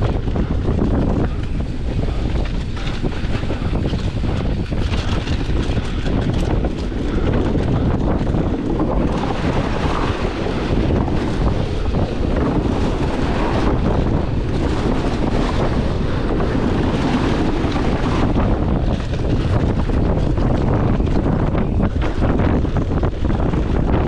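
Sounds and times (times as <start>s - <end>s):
bike rattling over rough trail: 0.0s - 24.0s
wind rushing over microphone: 0.0s - 24.0s.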